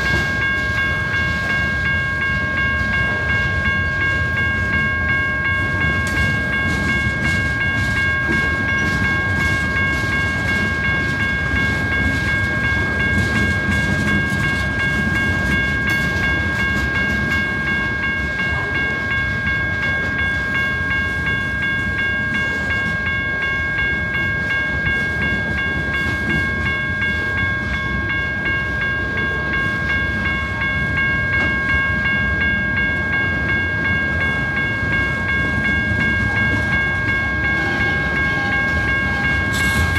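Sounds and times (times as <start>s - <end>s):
freight train rumble: 0.0s - 39.9s
high ringing tone: 0.0s - 39.9s.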